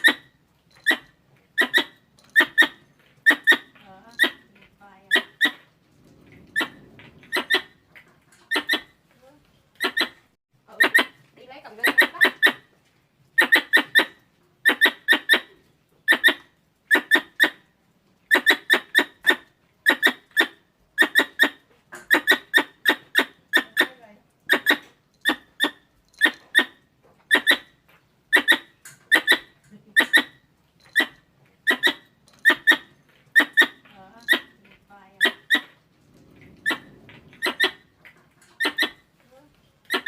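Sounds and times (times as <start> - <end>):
squirrel chirping calls: 0.0 - 5.7, 6.5 - 9.0, 9.7 - 12.7, 13.4 - 17.7, 18.3 - 35.8, 36.5 - 39.1.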